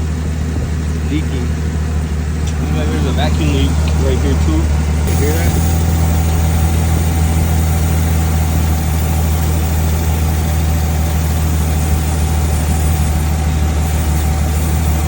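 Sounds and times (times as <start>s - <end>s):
car engine idling: 0.0s - 15.0s
vacuum leak hissing: 1.0s - 15.0s.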